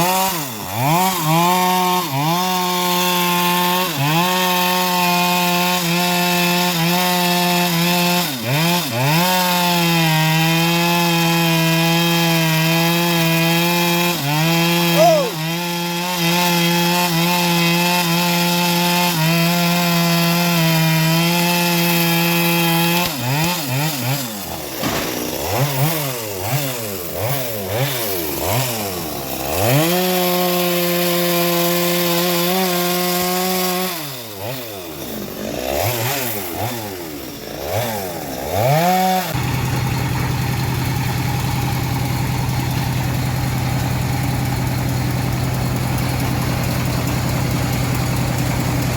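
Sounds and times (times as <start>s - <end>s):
petrol saw engine cutting wood: 0.0s - 48.9s.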